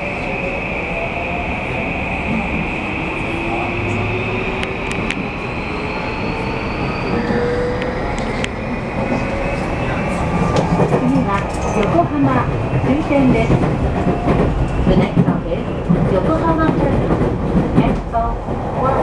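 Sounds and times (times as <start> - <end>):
train inverter whine: 0.0 - 17.2.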